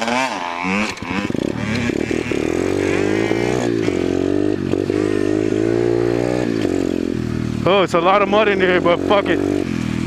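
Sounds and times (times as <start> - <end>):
dirt bike engine pulling away: 0.0 - 10.0.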